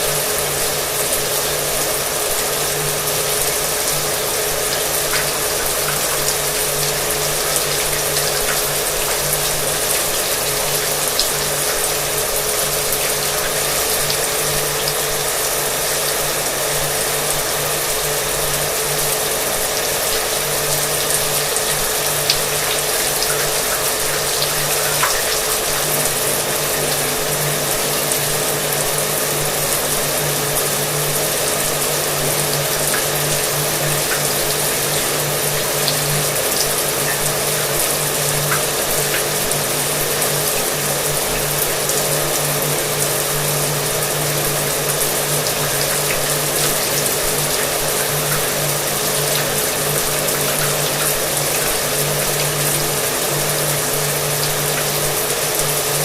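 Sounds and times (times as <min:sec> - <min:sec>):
shower water spraying: 0:00.0 - 0:56.0.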